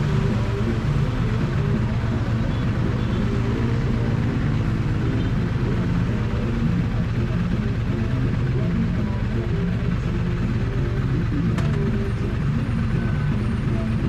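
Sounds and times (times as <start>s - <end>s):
motorcycle engine exhaust: 0.0s - 14.0s.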